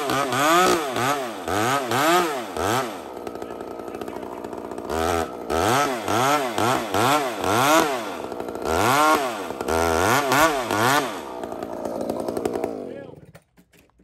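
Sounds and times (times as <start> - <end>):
chainsaw revving: 0.0 - 13.4.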